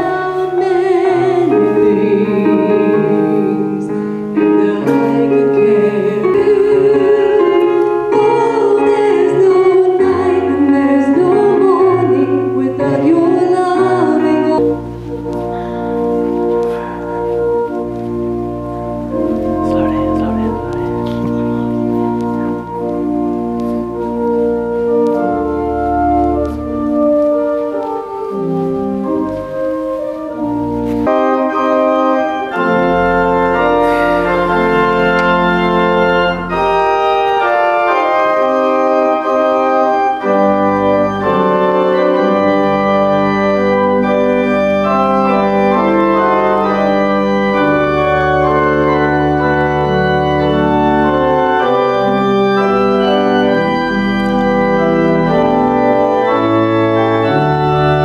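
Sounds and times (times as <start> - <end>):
organ playing slow chords: 0.0 - 58.0.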